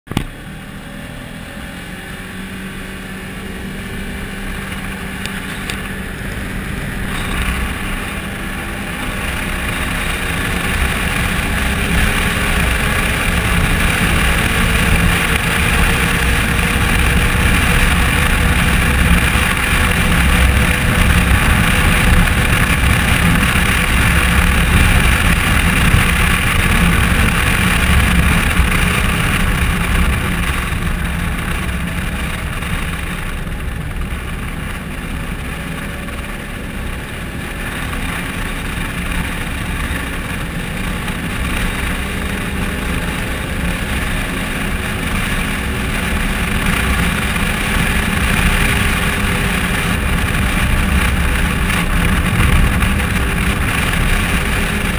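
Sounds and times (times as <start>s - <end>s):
vehicle engine: 0.1s - 54.9s
wind noise: 0.1s - 54.9s.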